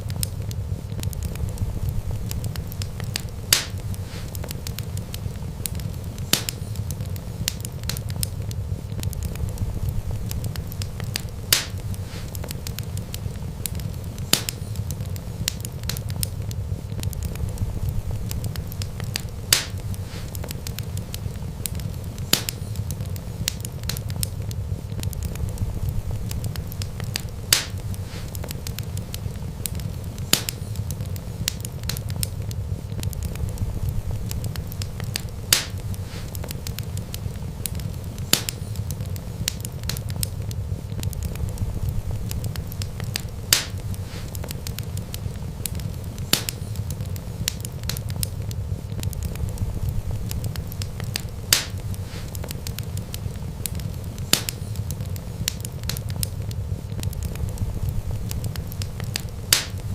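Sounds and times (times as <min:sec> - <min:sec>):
fire crackling pops: 0:00.0 - 0:59.9
flames rumbling: 0:00.0 - 0:59.9.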